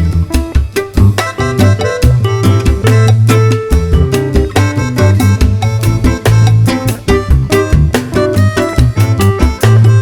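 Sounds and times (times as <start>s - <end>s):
salsa music: 0.0s - 10.0s.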